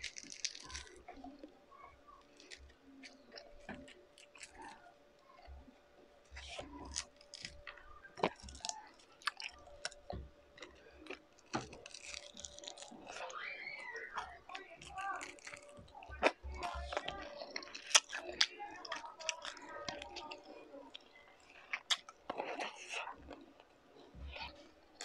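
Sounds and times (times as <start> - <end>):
close chewing and mouth sounds: 0.0 - 25.0
faint steady hum: 0.0 - 25.0.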